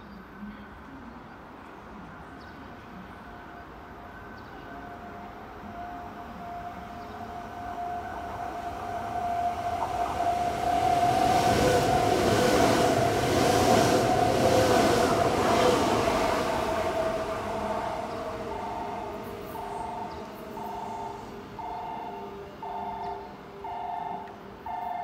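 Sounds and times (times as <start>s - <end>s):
steady train whine: 1.9s - 25.0s
electric train rumbling past: 2.9s - 25.0s.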